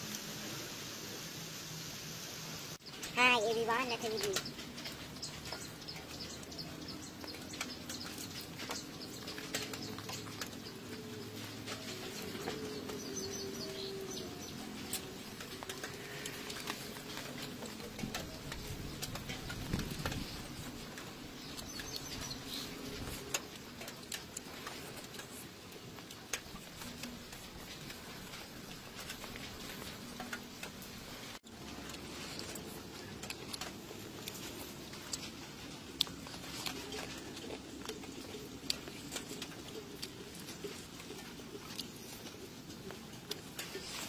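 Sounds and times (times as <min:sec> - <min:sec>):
birds chirping: 0:02.8 - 0:44.0
chewing: 0:04.0 - 0:44.0.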